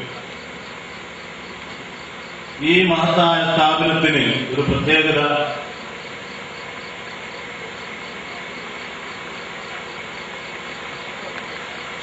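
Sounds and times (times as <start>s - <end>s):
steady recording hiss: 0.0s - 12.0s.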